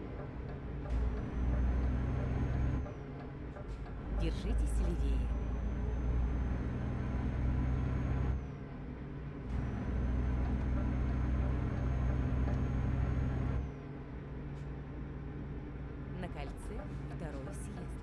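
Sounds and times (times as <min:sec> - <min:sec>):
truck engine drone: 0:00.0 - 0:18.0.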